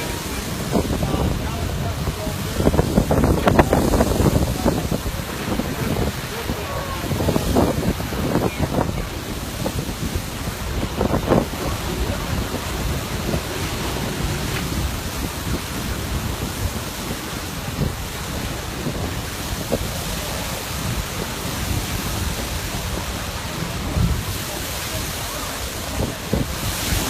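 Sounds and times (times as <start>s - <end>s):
volcanic eruption rumble: 0.0s - 27.0s
wind buffeting microphone: 0.0s - 27.0s.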